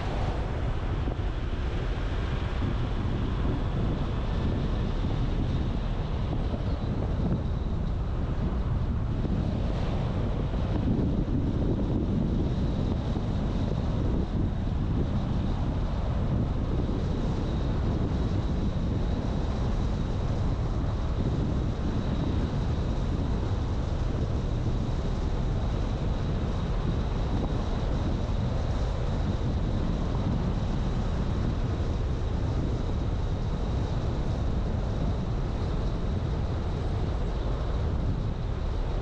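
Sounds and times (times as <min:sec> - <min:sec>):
car road and engine noise: 0:00.0 - 0:39.0
wind buffeting microphone: 0:00.0 - 0:39.0.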